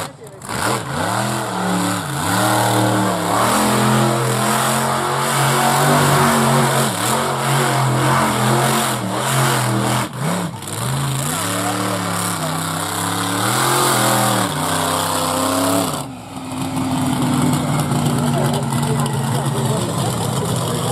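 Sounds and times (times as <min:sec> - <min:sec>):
monster truck engine revving: 0:00.0 - 0:20.9.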